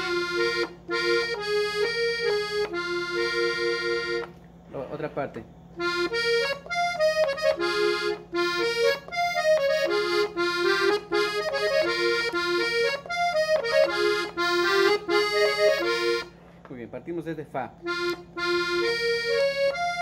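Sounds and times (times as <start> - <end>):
accordion melody: 0.0 - 16.6, 17.8 - 20.0.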